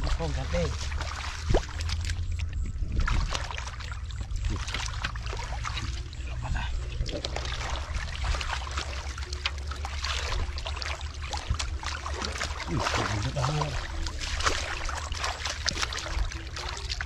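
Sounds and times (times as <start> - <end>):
hands splashing in muddy water: 0.0 - 17.0
steady low rumble: 0.0 - 17.0.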